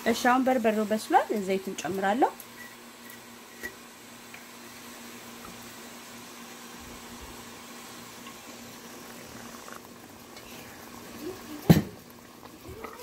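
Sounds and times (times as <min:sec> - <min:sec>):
steady kitchen hiss: 0:00.0 - 0:13.0.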